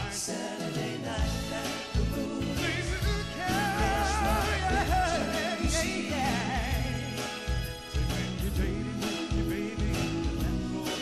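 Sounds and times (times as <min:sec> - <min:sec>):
backing music: 0:00.0 - 0:11.0
soul vocal group singing: 0:00.0 - 0:11.0.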